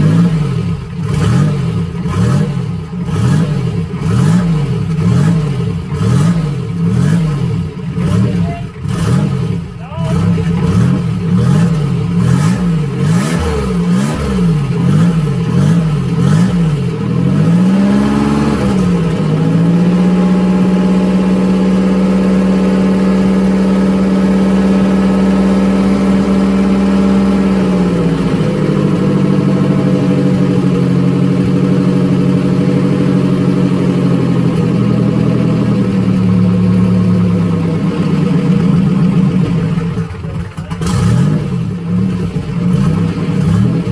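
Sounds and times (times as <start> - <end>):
car engine revving and idling: 0.0 - 43.9.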